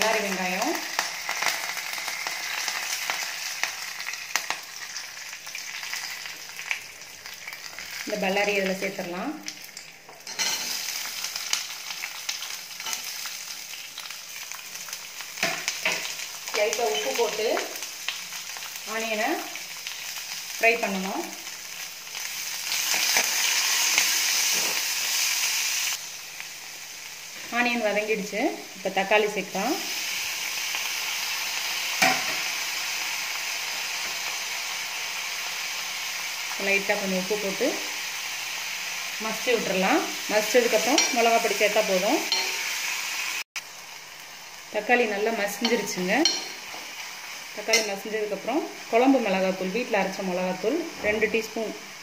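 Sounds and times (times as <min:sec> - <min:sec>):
hot oil sizzling: 0:00.0 - 0:52.0.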